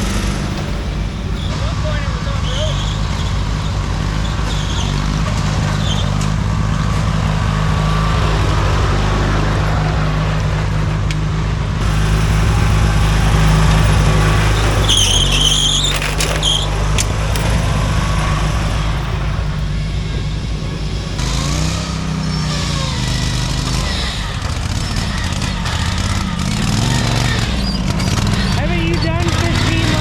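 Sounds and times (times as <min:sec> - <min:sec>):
high-pitched squeals: 0:00.0 - 0:06.2, 0:11.8 - 0:30.0
lawn mower engines running: 0:00.0 - 0:30.0.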